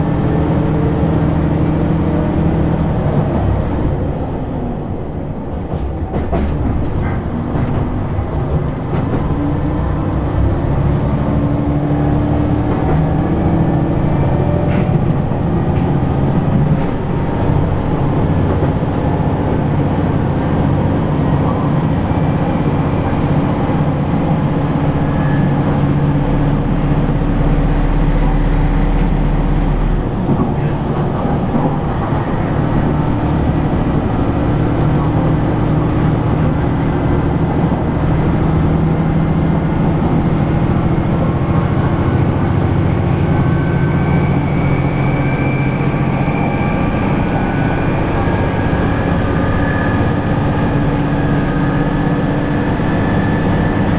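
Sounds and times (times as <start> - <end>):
diesel engine drone: 0.0 - 53.9
train wheels rumbling on rails: 0.0 - 53.9.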